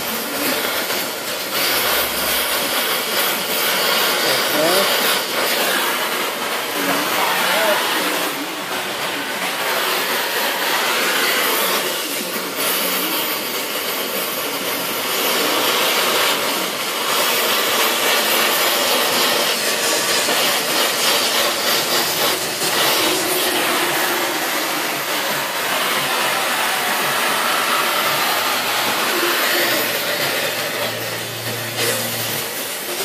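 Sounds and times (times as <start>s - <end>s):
gas torch flame hissing: 0.0s - 33.0s.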